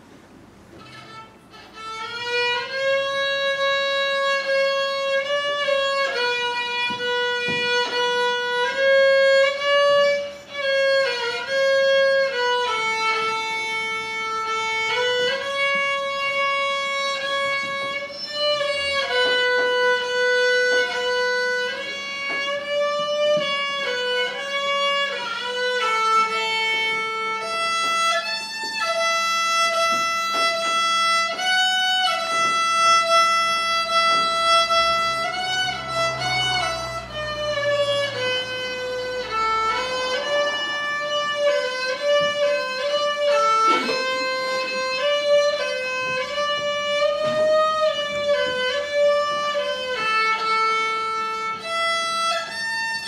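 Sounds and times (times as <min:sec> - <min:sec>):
solo violin slow melody: 0:00.0 - 0:53.0.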